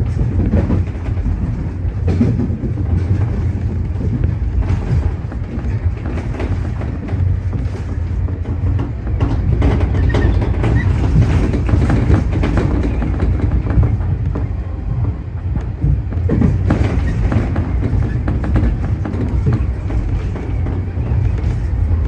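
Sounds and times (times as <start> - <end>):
electric train rumbling: 0.0 - 22.0
wheels clattering over rail joints: 0.0 - 22.0.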